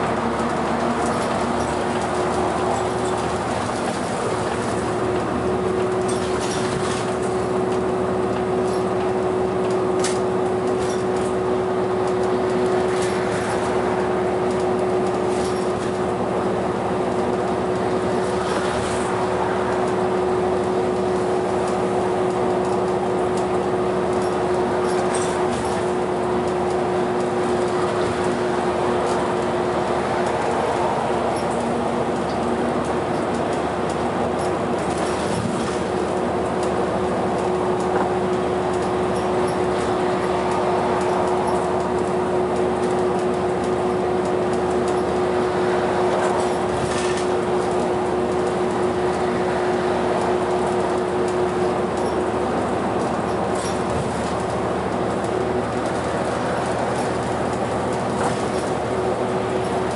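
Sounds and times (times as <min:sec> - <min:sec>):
bus engine and road noise: 0:00.0 - 0:59.9
constant hum tone: 0:00.0 - 0:59.9.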